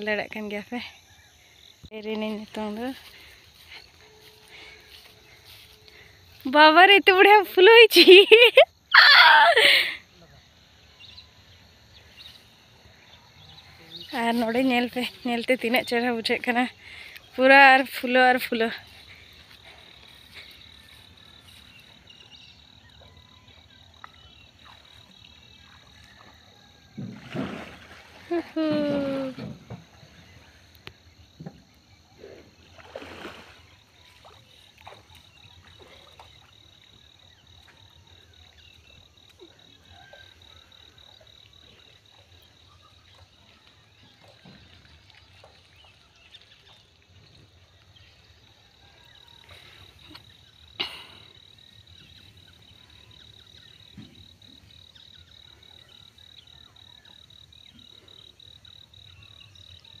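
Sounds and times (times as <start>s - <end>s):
frogs calling faintly: 0.0s - 60.0s.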